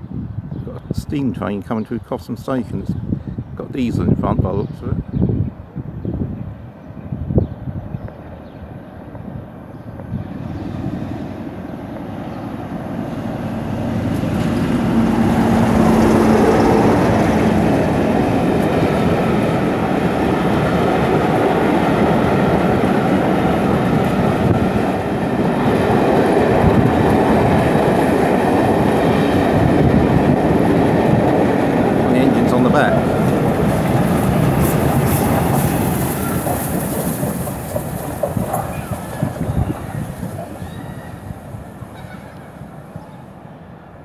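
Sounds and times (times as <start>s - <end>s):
train wheel and rail noise: 5.5s - 44.0s
diesel locomotive engine: 7.6s - 44.0s.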